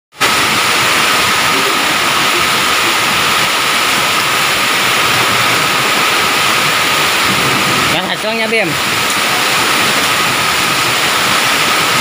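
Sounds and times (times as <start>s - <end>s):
heavy rain and hail: 0.1s - 12.0s.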